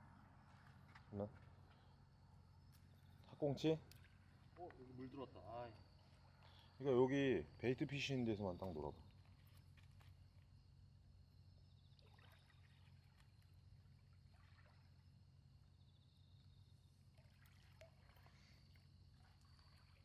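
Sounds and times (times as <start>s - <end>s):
water lapping softly: 2.7s - 20.0s.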